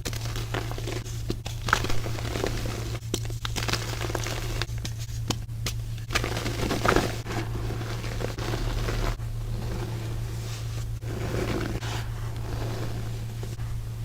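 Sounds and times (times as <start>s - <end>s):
crumble crunching: 0.0s - 14.0s
low steady hum: 0.0s - 14.0s.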